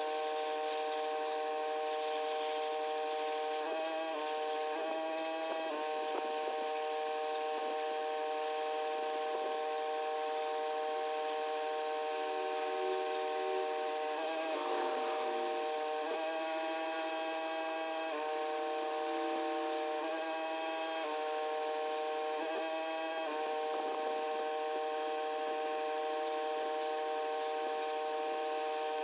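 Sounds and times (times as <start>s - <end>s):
pressure washer running: 0.0s - 29.0s.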